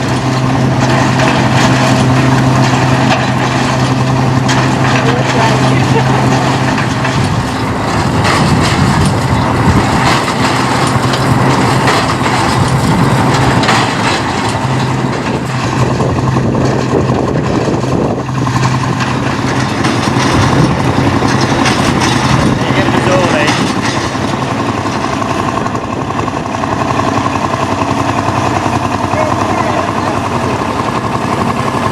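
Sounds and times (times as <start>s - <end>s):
engine running with clatter: 0.0s - 31.9s.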